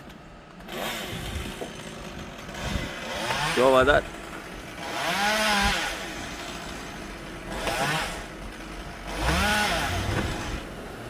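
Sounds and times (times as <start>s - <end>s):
chainsaw revving: 0.6s - 11.0s.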